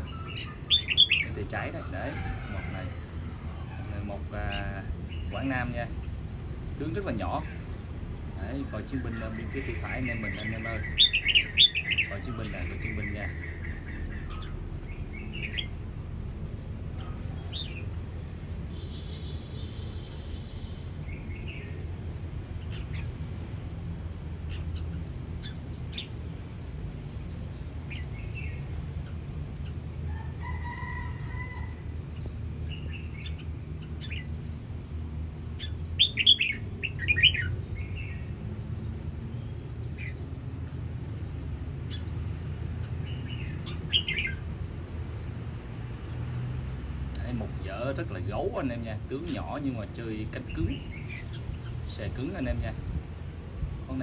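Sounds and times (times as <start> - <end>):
birds chirping and warbling: 0.0 - 54.0.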